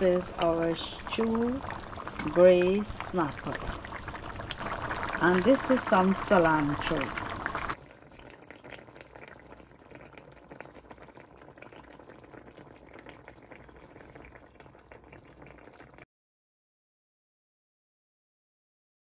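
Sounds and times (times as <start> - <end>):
stew bubbling in a pan: 0.0 - 16.1.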